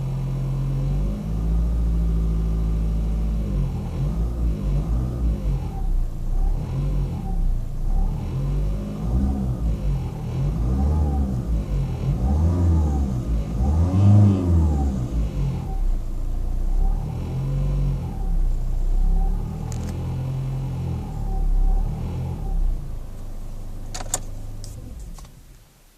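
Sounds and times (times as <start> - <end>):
car engine revving: 0.0 - 25.6.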